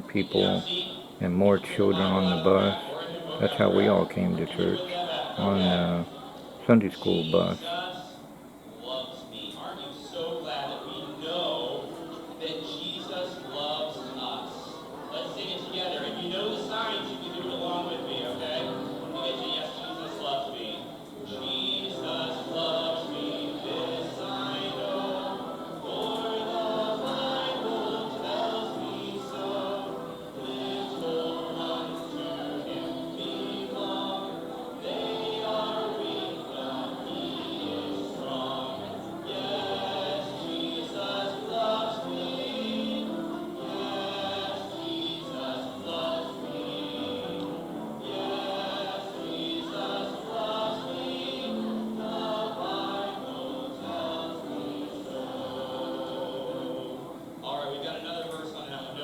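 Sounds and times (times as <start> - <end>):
choir singing gospel: 0.0 - 59.0.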